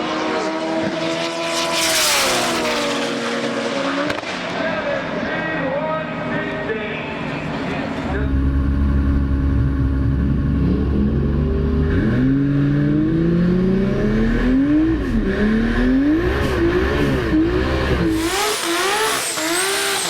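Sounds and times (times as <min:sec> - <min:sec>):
race car engine revving: 0:00.0 - 0:05.1, 0:07.1 - 0:20.0.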